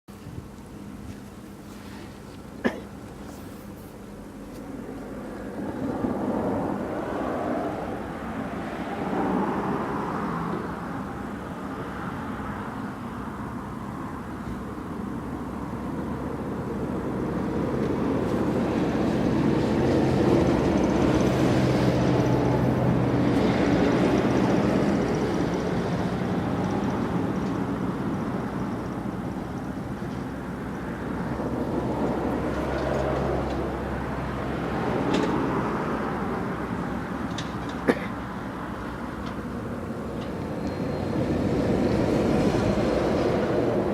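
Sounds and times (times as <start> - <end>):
lorry diesel engines running: 0.1 - 43.9.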